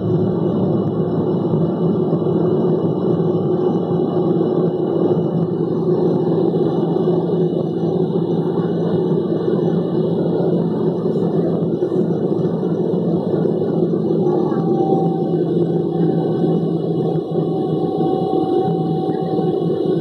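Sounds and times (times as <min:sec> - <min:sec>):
jet engines from inside cabin: 0:00.0 - 0:20.0.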